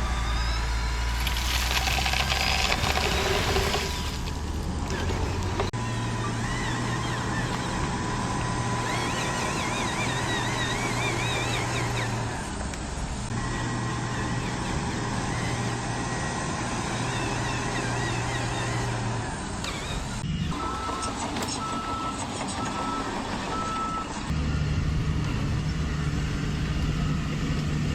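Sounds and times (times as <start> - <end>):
model vehicle motor hum: 0.0 - 27.9.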